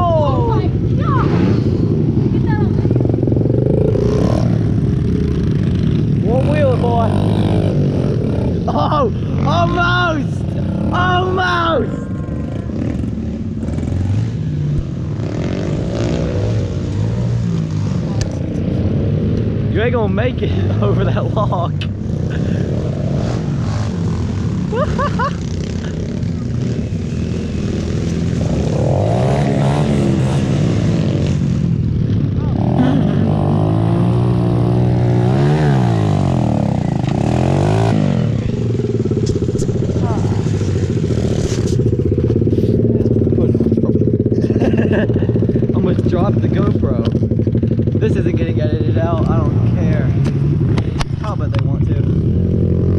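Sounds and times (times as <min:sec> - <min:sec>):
pit bike engine revving: 0:00.0 - 0:52.9.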